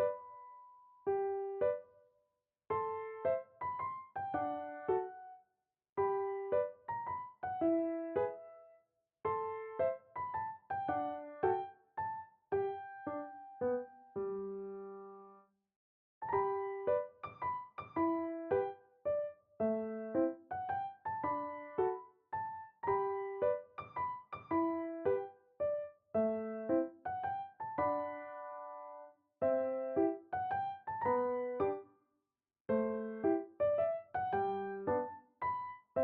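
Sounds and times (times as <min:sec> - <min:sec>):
piano music: 0:00.0 - 0:01.9, 0:02.7 - 0:05.4, 0:06.0 - 0:08.7, 0:09.3 - 0:15.4, 0:16.2 - 0:31.9, 0:32.7 - 0:36.0.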